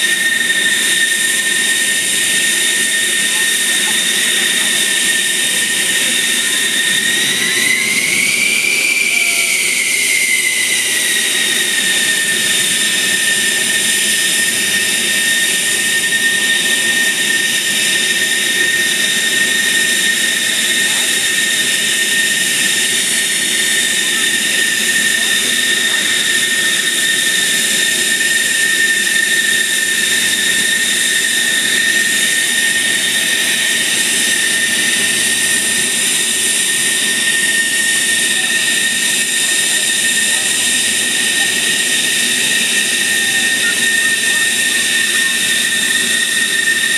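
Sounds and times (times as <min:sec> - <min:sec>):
jet engine idling whine: 0:00.0 - 0:46.9.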